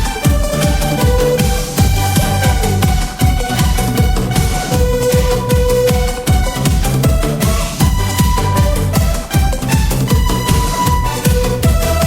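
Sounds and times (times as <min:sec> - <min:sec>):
electronic dance music: 0:00.0 - 0:12.0
held synth notes: 0:00.0 - 0:12.0
kick drum: 0:00.0 - 0:12.0.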